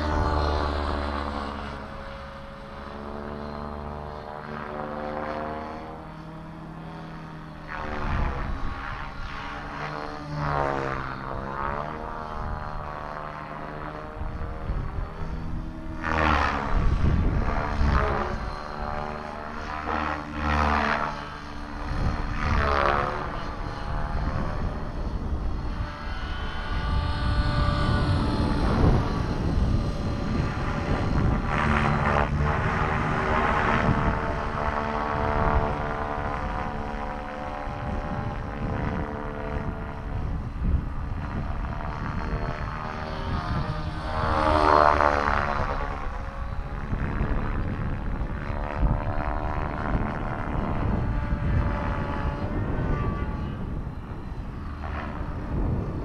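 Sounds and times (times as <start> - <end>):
rc helicopter rotor whine: 0.0 - 56.0
wind on microphone: 0.0 - 56.0.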